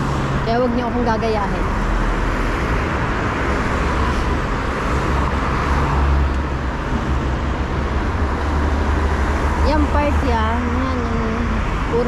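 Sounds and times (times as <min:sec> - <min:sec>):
cars passing on city street: 0:00.0 - 0:12.0.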